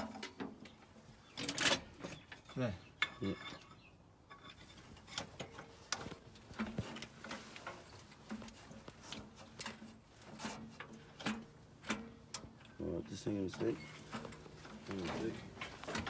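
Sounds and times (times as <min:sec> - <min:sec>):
tools clicking and knocking on metal: 0:01.4 - 0:12.8, 0:13.4 - 0:16.0.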